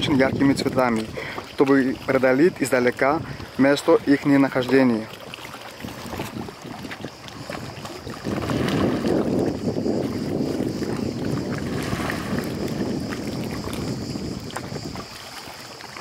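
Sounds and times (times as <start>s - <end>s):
waves lapping against stone quay: 0.0s - 16.0s.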